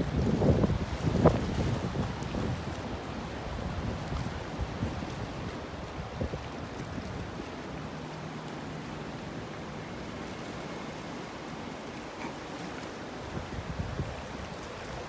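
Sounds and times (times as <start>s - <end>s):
small waves on water: 0.0s - 15.0s
wind buffeting microphone: 0.0s - 15.0s.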